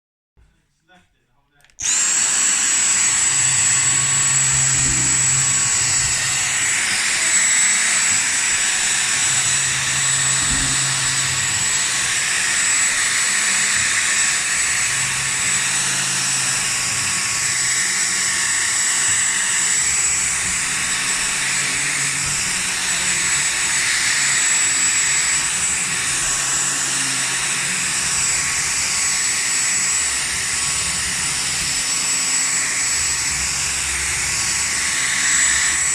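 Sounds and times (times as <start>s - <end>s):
vacuum cleaner running: 1.8s - 35.9s.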